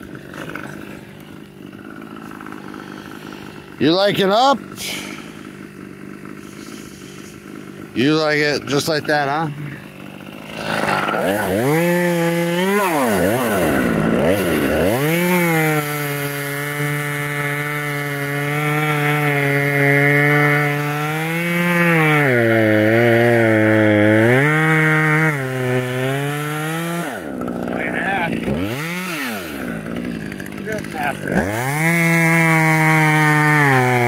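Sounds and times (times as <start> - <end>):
chainsaw revving and cutting wood: 0.0 - 34.0.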